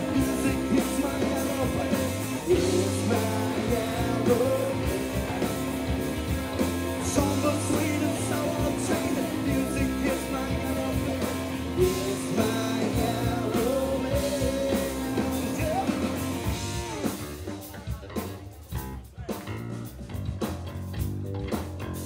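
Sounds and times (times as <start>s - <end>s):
person singing: 0.0s - 18.5s
live rock band playing: 0.0s - 22.0s.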